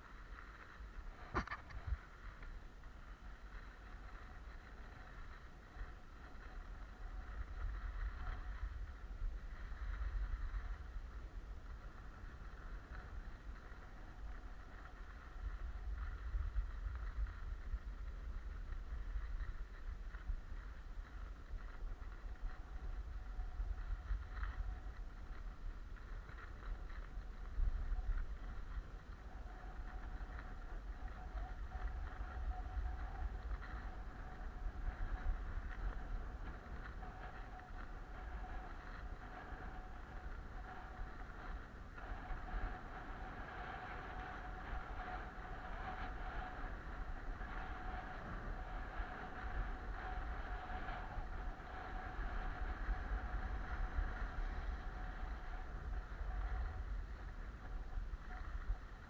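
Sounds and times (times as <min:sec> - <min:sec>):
skis scraping on snow: 0:00.0 - 0:59.0
wind rumbling on microphone: 0:00.0 - 0:59.0.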